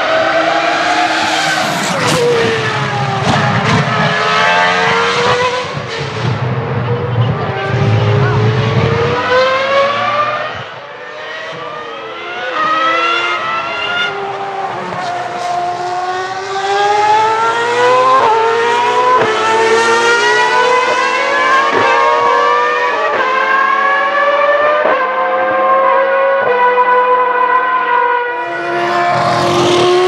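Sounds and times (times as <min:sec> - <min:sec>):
racing engines accelerating past: 0:00.0 - 0:30.0.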